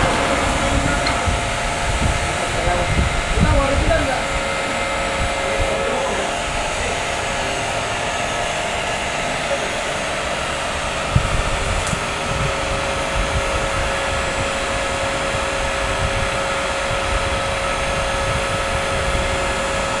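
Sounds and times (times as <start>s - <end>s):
motor and pump running: 0.0s - 20.0s
wire saw cutting concrete: 0.0s - 20.0s.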